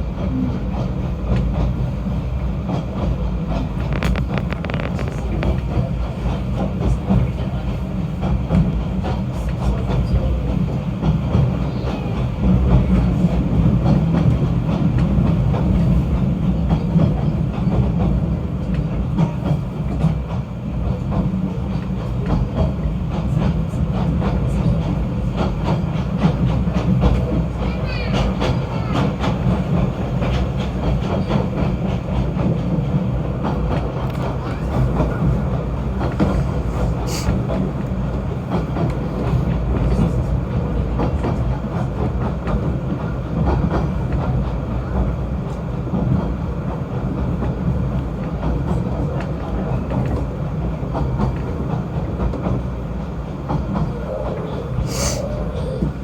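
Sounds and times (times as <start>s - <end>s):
rack train rumbling: 0.0s - 56.0s.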